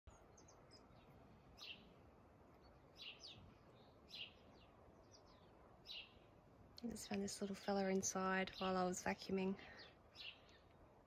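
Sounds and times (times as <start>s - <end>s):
faint bird chirps: 0.1s - 11.0s.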